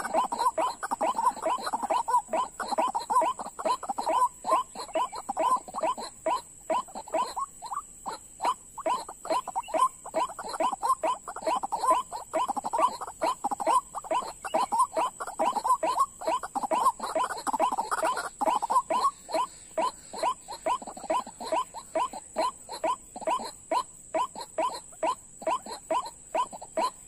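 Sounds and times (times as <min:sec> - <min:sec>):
birds croaking rapidly: 0:00.0 - 0:27.0.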